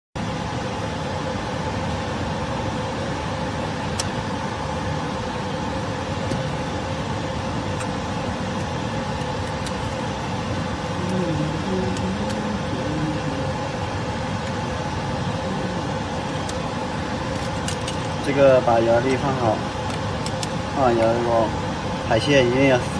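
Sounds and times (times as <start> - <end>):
constant machine tones: 0.2 - 22.9
machinery humming: 0.2 - 22.9.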